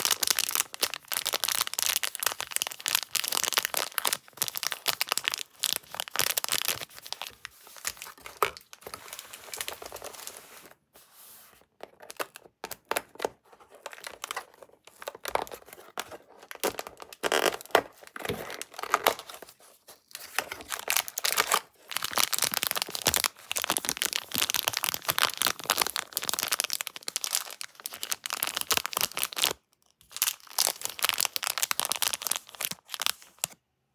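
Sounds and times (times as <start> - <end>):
candy packaging crinkling: 0.0 - 33.6.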